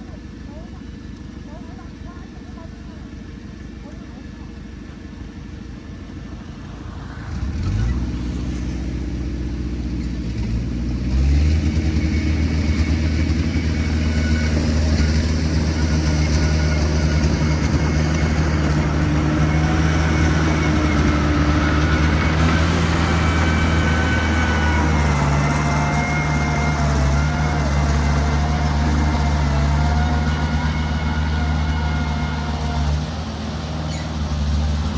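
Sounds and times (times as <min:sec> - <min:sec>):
heavy machinery diesel engine: 0:00.0 - 0:34.9.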